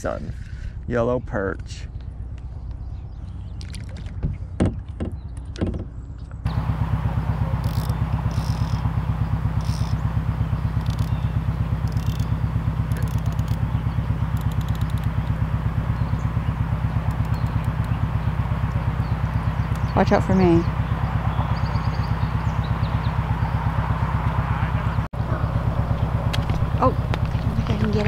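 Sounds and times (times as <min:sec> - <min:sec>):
engine running: 0:01.9 - 0:28.0.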